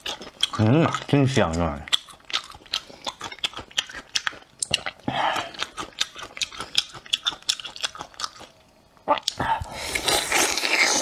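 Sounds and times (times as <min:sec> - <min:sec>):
wet chewing of food: 0:00.0 - 0:11.0.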